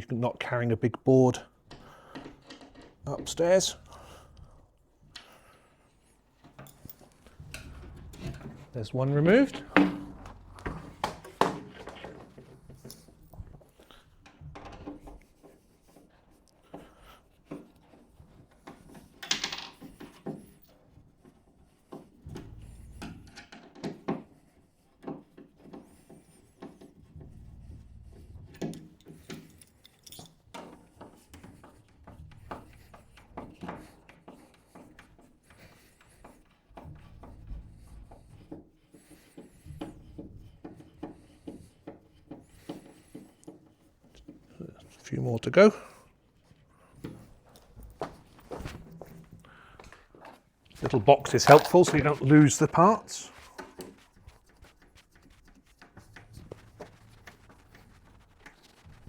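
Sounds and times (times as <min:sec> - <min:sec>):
clicks knocks and rubbing: 0:01.7 - 0:05.4, 0:06.4 - 0:59.0.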